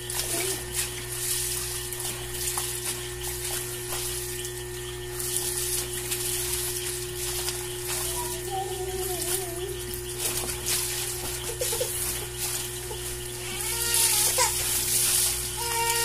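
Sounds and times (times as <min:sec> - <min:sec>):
steady hum: 0:00.0 - 0:16.0
water splashing and sloshing: 0:00.0 - 0:16.0.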